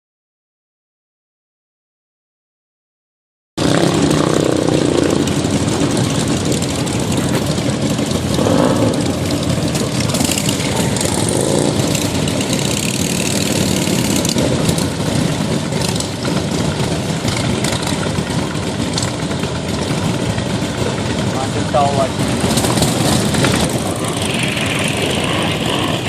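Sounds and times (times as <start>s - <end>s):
motorcycle engines running: 3.6s - 26.0s.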